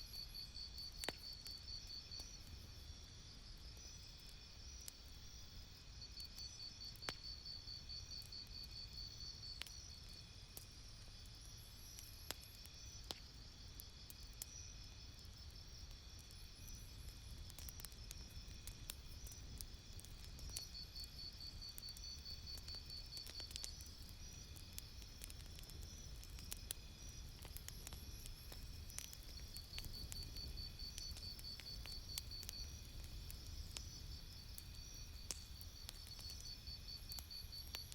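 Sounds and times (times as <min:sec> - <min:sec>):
campfire crackling: 0:00.1 - 0:37.9.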